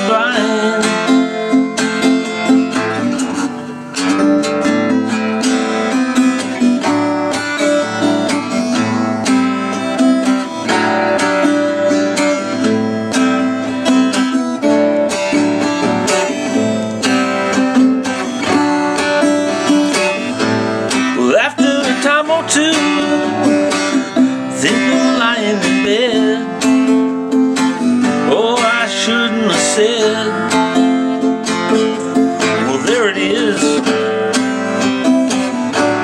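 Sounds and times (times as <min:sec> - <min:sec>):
acoustic guitar strummed and picked: 0:00.0 - 0:36.0.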